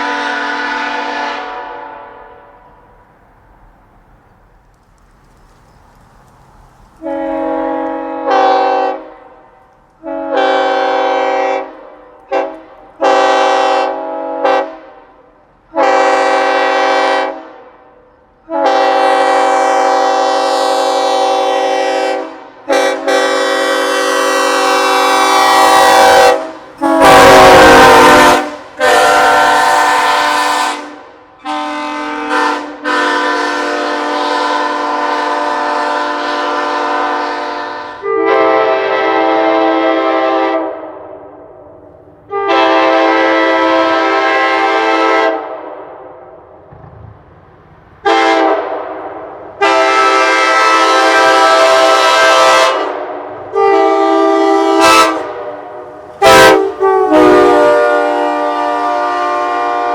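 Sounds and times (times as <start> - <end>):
train horn blasts: 0.0 - 2.8, 7.0 - 41.6, 42.3 - 46.4, 48.0 - 59.9.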